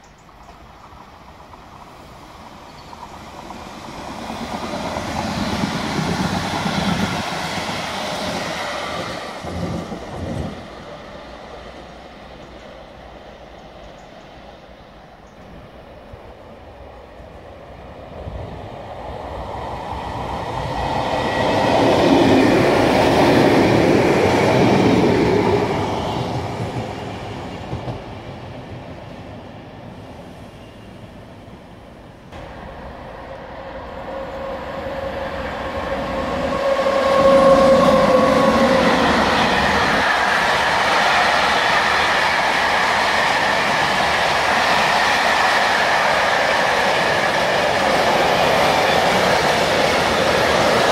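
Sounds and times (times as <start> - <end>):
electric train passing: 0.0 - 50.9
freight train rolling by: 0.0 - 50.9.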